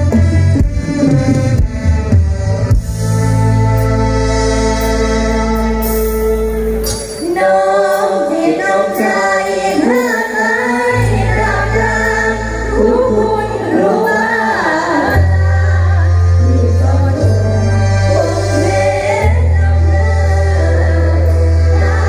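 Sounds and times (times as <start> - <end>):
keyboard chords and bass: 0.0 - 22.0.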